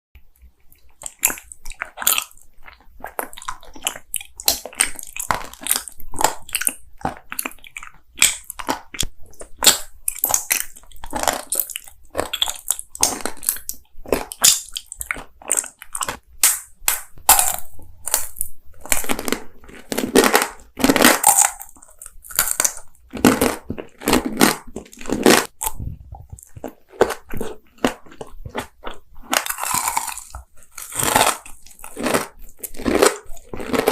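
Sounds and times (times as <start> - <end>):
wet chewing: 0.2 - 33.9
crunchy bites: 0.9 - 33.9.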